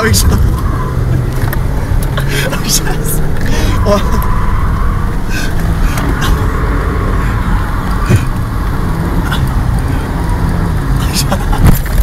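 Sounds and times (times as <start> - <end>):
car engine running: 0.0 - 12.0
tyre and road noise: 0.0 - 12.0.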